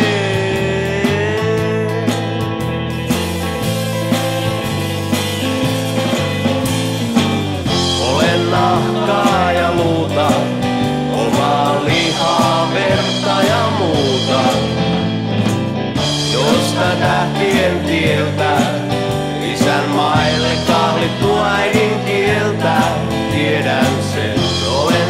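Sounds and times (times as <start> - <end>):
bass: 0.0 - 25.0
blues-rock lead guitar bending notes: 0.0 - 25.0
drums: 0.0 - 25.0.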